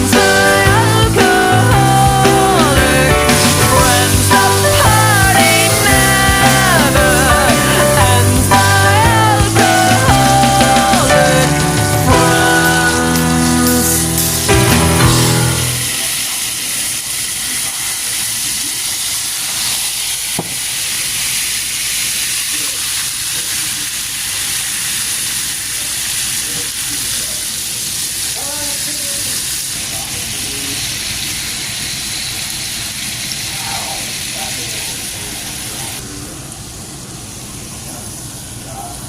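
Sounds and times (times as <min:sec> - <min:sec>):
food sizzling in frying pan: 0:00.0 - 0:36.0.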